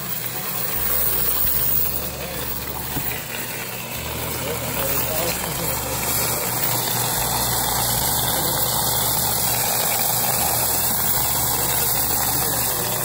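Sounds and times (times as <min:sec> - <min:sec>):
coin machine motor humming: 0:00.0 - 0:13.0
coins rattling through sorter: 0:00.0 - 0:13.0.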